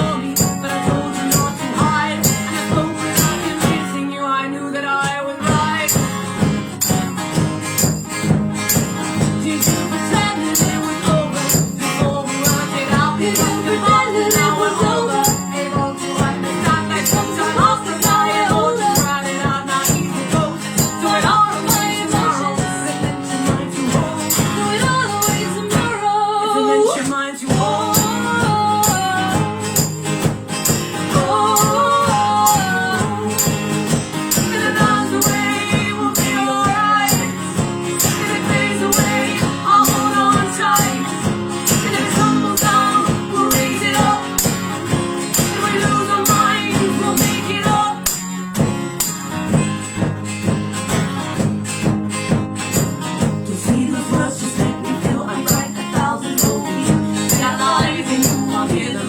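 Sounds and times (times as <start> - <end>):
fast jingling percussion: 0.0 - 3.9, 5.4 - 25.8, 27.6 - 59.0
person singing: 0.0 - 7.0, 8.7 - 48.6, 52.8 - 59.0
acoustic guitar: 0.0 - 59.0.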